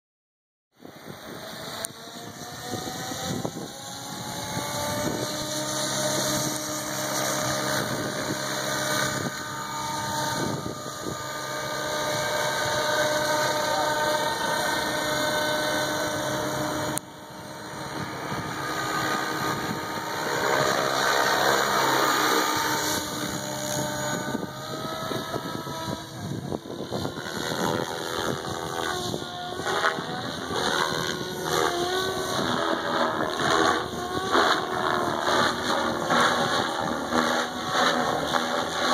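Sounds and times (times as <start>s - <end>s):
rc helicopter motor and rotor whine: 0.8s - 38.9s.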